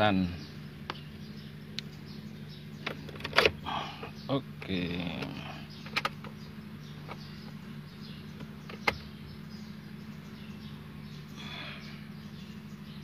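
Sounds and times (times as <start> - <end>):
car cabin hum: 0.0 - 11.4.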